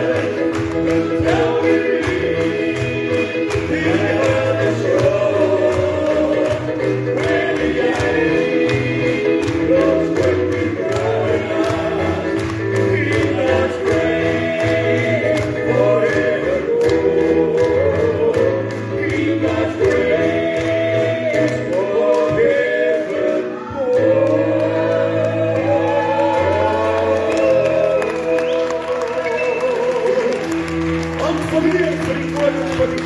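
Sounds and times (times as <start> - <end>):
people singing in harmony: 0.0 - 30.6.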